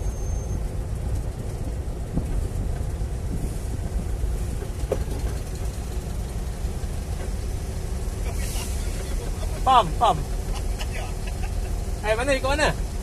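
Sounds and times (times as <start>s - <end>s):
car engine drone from inside: 0.0s - 13.0s.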